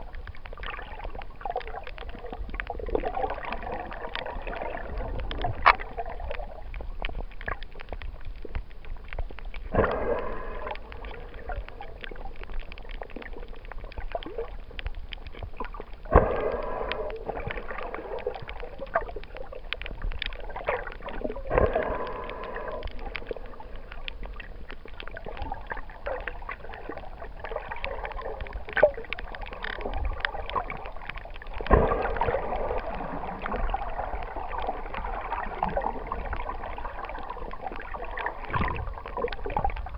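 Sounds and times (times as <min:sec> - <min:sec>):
crackle of small sharp clicks: 0:00.0 - 0:39.9
water gurgling and rushing underwater: 0:00.0 - 0:39.9.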